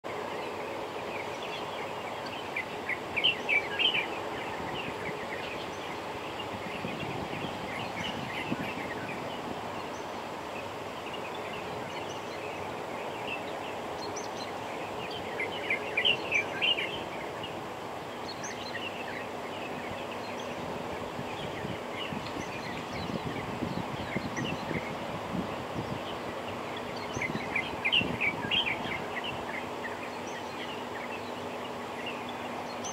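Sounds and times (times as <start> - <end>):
outdoor background hum: 0.1 - 32.9.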